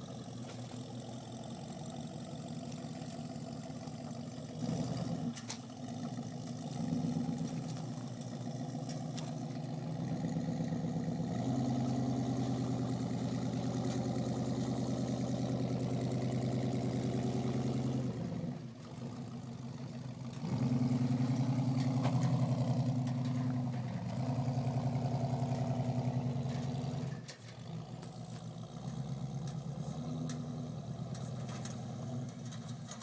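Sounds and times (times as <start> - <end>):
pickup truck engine revving: 0.0 - 33.0.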